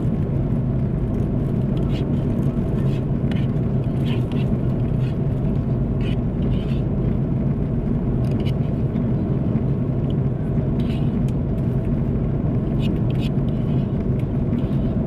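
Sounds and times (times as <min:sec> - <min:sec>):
jet cabin engine roar: 0:00.0 - 0:15.0.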